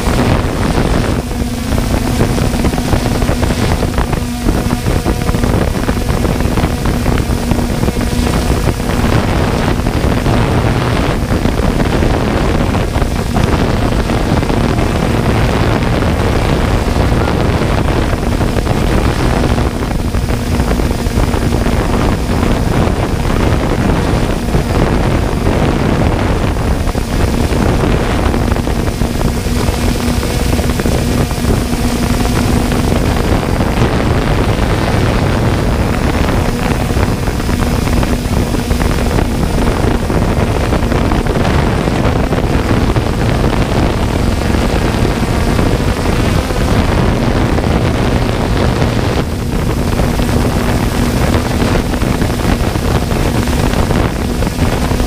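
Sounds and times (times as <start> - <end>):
drone motors and propellers: 0.0 - 55.0
low hum: 0.0 - 55.0
wind on microphone: 0.0 - 55.0.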